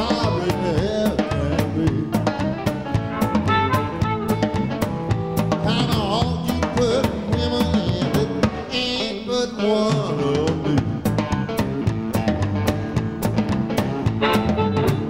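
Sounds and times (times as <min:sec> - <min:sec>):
drum kit beat: 0:00.0 - 0:09.1, 0:09.8 - 0:15.0
lead guitar melody bending: 0:00.0 - 0:15.0
live electric blues band: 0:00.0 - 0:15.0.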